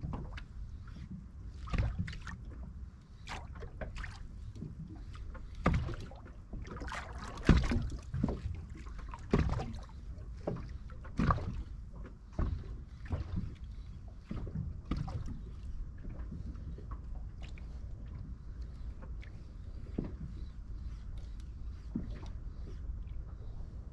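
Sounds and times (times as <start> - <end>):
small waves lapping: 0.0 - 23.8
wind rumble on microphone: 0.0 - 23.9.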